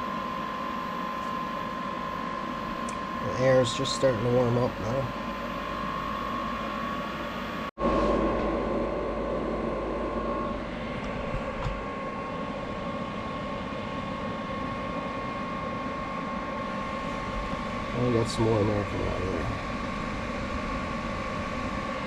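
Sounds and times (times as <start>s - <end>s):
diesel heater blower and burner: 0.0s - 22.0s
thin steady whine: 0.0s - 22.0s.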